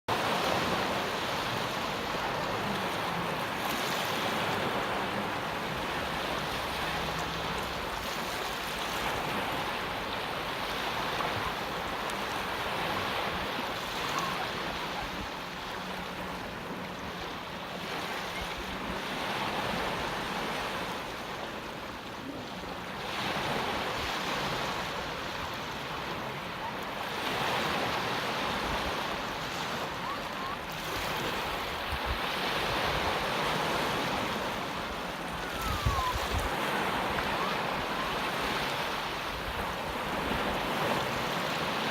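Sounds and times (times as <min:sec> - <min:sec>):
sea waves washing onto shore: 0:00.1 - 0:41.9.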